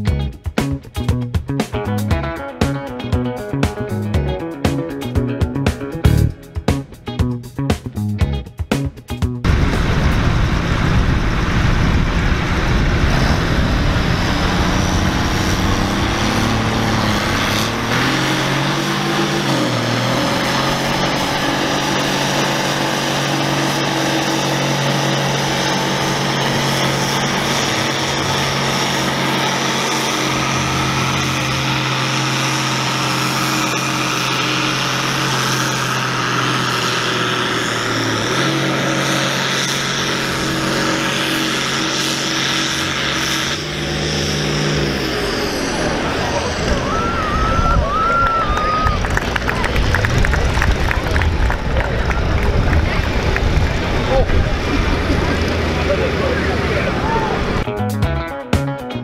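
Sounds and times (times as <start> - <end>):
tractor diesel engine under load: 9.4 - 57.7.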